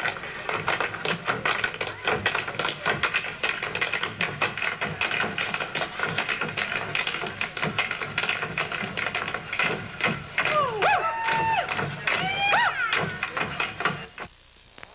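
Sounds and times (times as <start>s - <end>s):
tap shoes on wooden stage: 0.0s - 14.3s.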